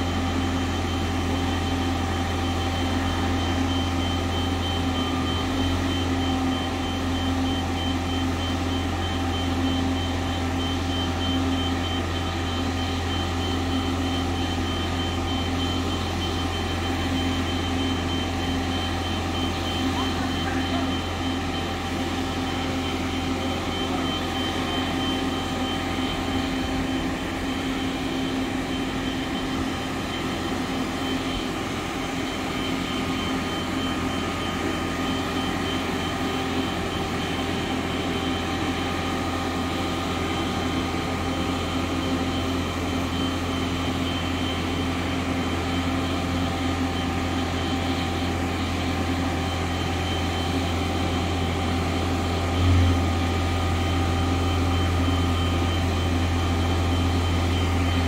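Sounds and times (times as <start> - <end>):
vehicle engine droning and whining: 0.0 - 58.0.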